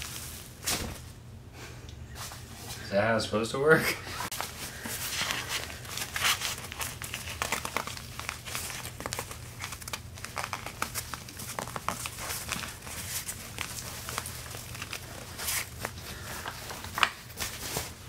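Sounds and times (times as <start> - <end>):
fabric rustling and crinkling: 0.0 - 1.2, 4.2 - 18.0.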